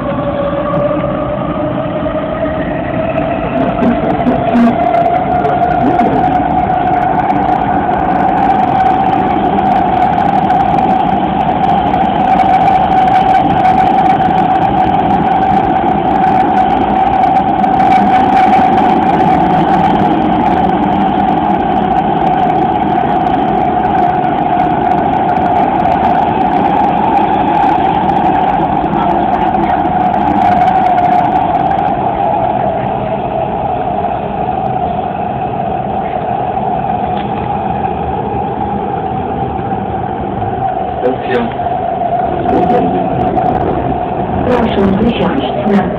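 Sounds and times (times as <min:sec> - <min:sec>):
metro car interior whine and rumble: 0:00.0 - 0:45.9.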